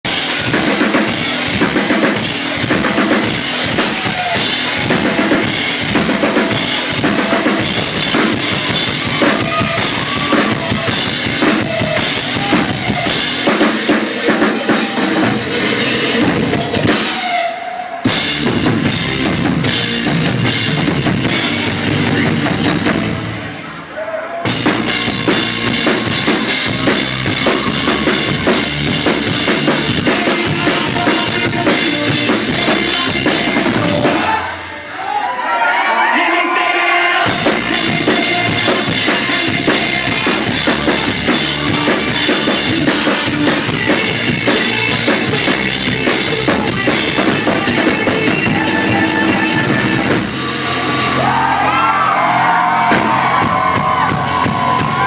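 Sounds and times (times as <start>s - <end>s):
rock drum solo: 0.0s - 23.6s, 24.4s - 34.7s, 37.2s - 55.0s
crowd cheering: 0.0s - 55.0s.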